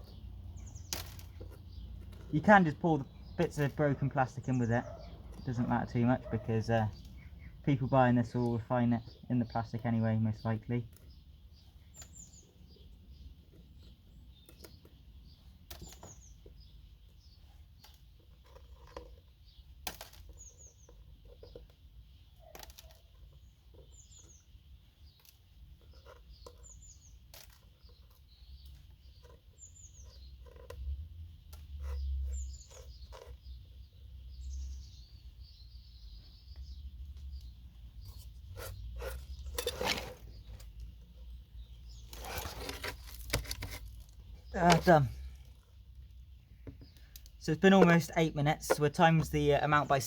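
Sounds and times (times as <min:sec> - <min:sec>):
small bird chirping: 0:00.0 - 0:50.0.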